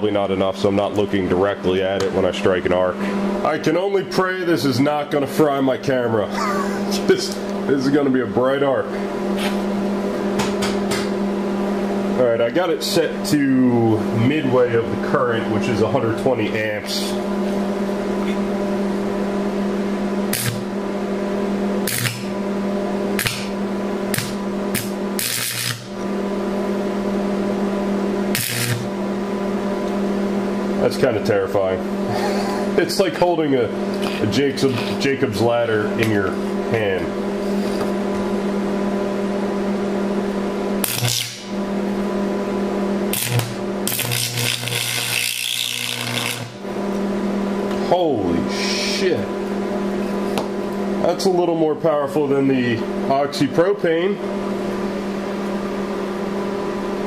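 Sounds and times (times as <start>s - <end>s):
arc welder humming: 0.0s - 57.0s.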